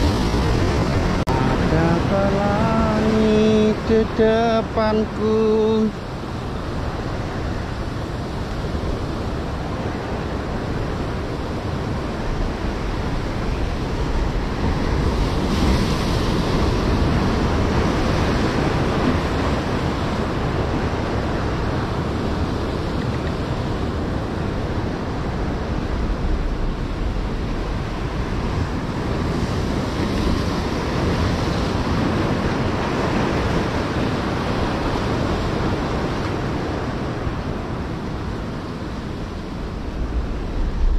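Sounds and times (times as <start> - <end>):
wind buffeting microphone: 0.0 - 5.2, 5.8 - 40.9
surf breaking on shore: 0.0 - 40.9.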